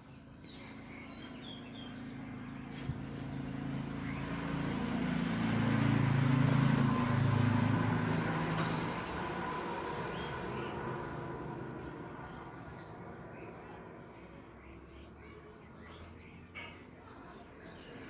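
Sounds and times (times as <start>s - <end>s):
birds chirping: 0.0s - 5.3s, 6.5s - 18.0s
vehicle engine hum: 0.1s - 18.0s
road noise: 0.2s - 18.0s.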